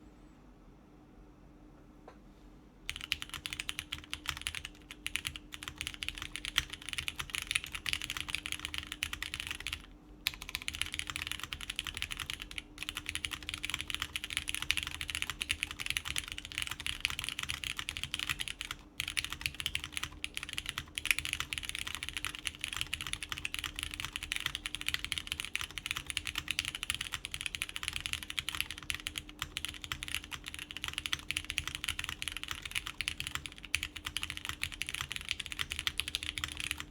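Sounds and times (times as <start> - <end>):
mechanical keyboard typing: 2.9 - 36.9.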